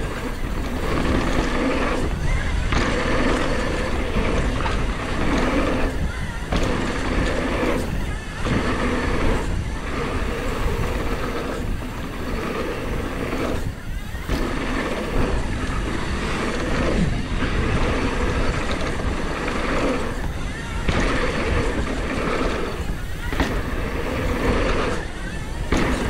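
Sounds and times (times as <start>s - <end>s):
bike tyres rumbling over gravel: 0.0s - 26.0s
wind buffeting microphone: 0.0s - 26.0s.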